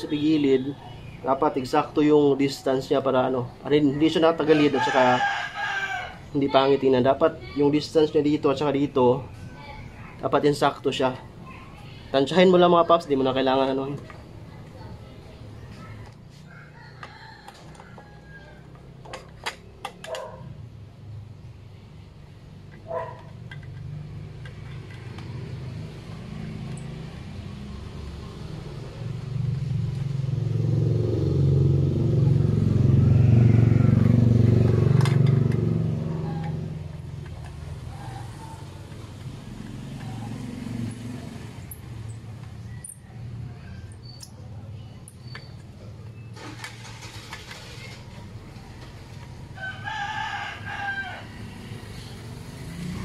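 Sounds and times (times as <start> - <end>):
vehicle engine rumbling: 5.5 - 53.0.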